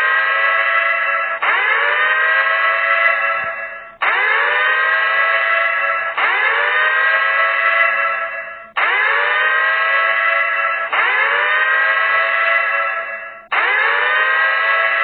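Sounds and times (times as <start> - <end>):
air-raid siren wailing: 0.0 - 15.0.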